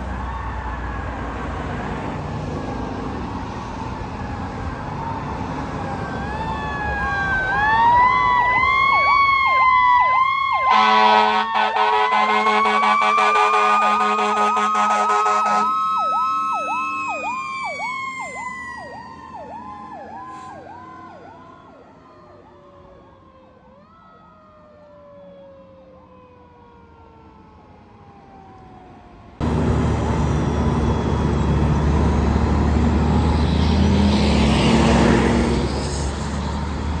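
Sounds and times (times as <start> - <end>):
fire engine siren yelp: 0.0 - 37.0
long siren tone winding down: 0.0 - 37.0.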